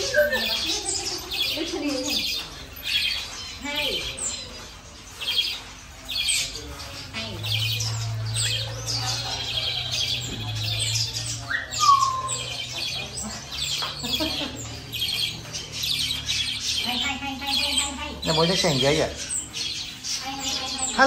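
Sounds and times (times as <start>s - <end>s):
birds chirping rapidly: 0.0s - 21.0s.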